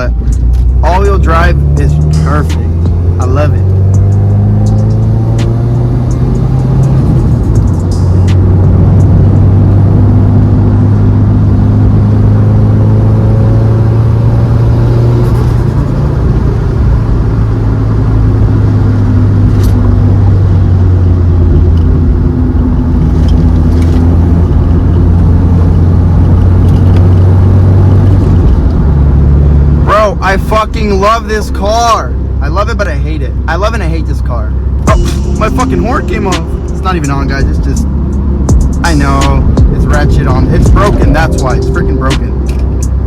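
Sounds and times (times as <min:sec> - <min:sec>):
car engine droning: 0:00.0 - 0:43.0
road rumble: 0:00.0 - 0:43.0.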